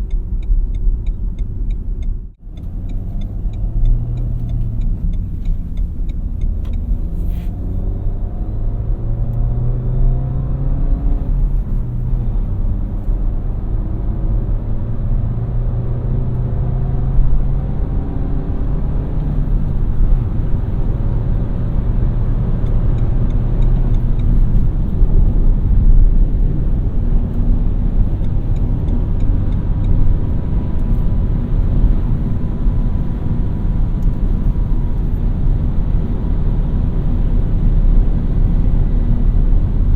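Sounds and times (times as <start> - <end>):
car engine accelerating: 0.0 - 39.9
road and tyre rumble: 0.0 - 39.9.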